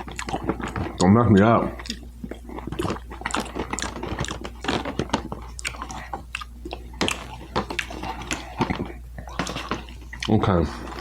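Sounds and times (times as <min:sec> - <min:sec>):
chewing with crunches: 0:00.0 - 0:11.0.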